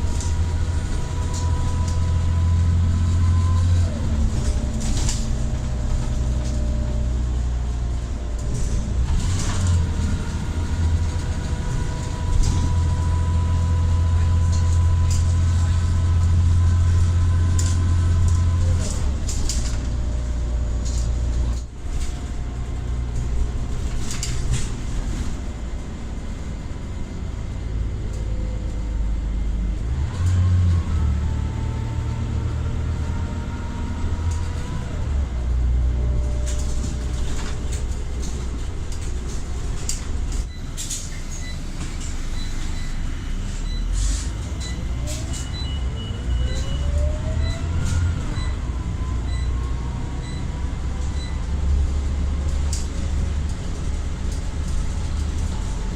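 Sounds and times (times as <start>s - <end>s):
bus engine drone: 0.0s - 55.9s.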